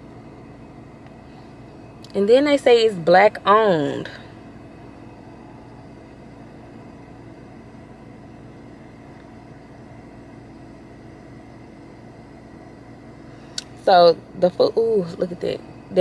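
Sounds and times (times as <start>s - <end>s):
air-conditioning fan hiss: 0.0s - 16.0s
idling engine hum: 0.0s - 16.0s.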